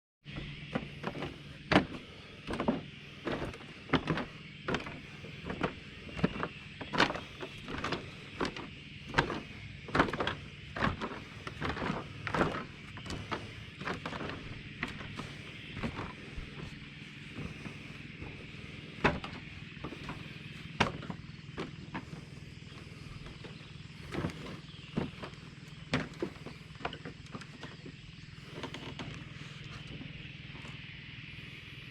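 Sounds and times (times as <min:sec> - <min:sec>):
bicycle tyres rolling: 0:00.3 - 0:31.6.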